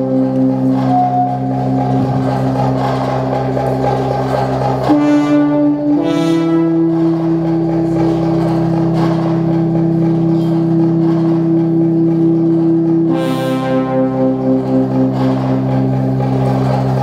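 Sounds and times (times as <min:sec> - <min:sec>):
sustained synthesizer chords: 0:00.0 - 0:17.0.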